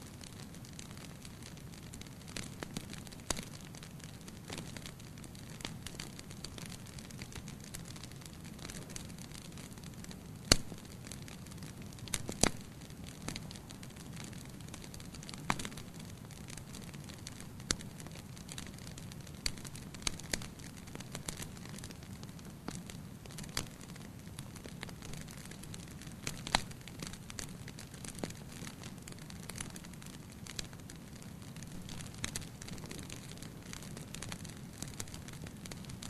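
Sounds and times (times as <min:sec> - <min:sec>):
fire crackles and pops: 0:00.0 - 0:36.0
wood fire burning: 0:00.0 - 0:36.0.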